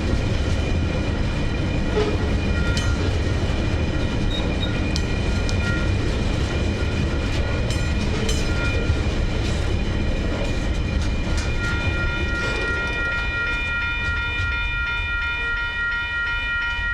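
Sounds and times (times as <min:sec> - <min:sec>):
freight train rumbling past: 0:00.0 - 0:16.9
train wheel clicks: 0:02.0 - 0:15.9
level-crossing bells ringing: 0:02.3 - 0:16.9.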